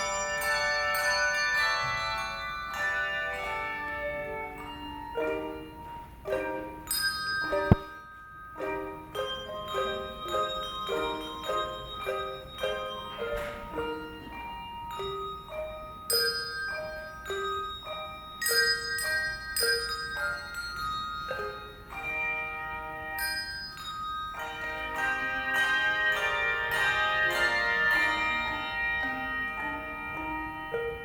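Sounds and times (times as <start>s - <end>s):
handbell choir ringing: 0.0s - 31.0s.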